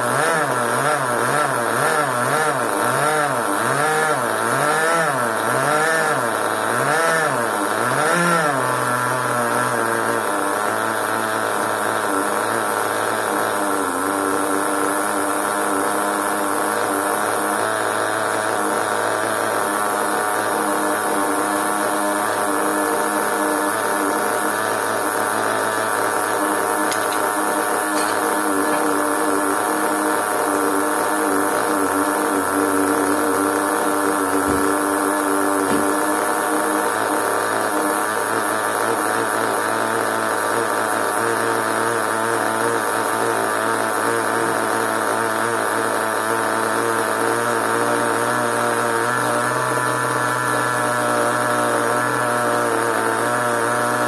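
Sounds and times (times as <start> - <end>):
small model engine buzzing: 0.0 - 54.0.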